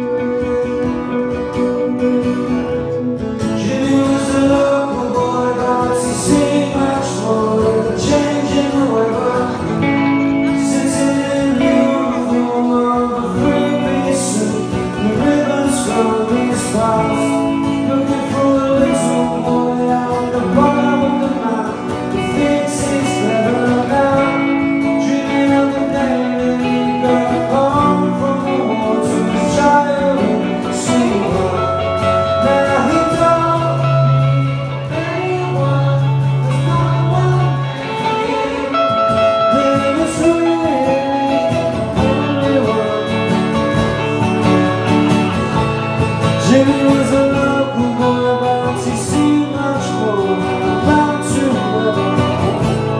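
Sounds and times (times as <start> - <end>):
man singing: 0.0 - 52.9
strummed acoustic guitar: 0.0 - 52.9.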